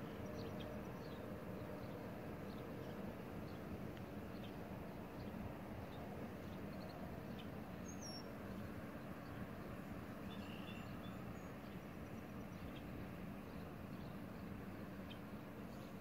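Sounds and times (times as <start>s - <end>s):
faint hum: 0.0s - 16.0s
low outdoor rumble: 0.0s - 16.0s.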